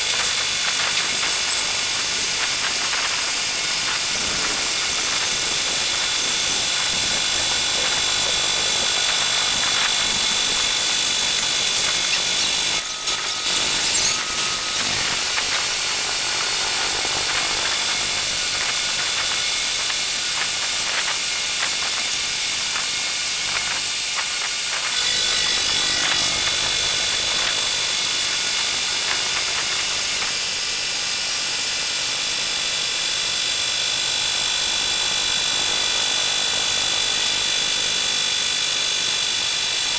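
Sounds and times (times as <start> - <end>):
milling machine cutting metal: 0.0 - 32.3.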